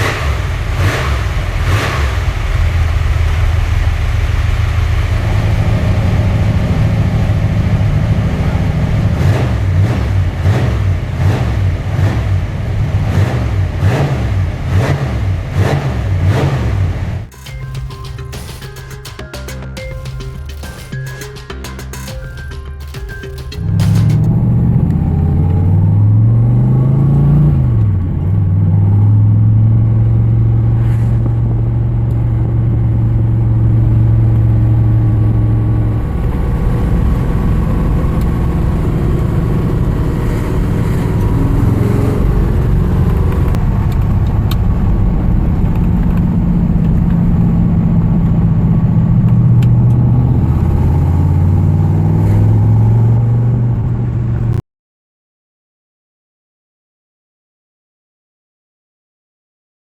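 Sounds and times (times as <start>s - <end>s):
car engine revving: 0.0s - 54.5s.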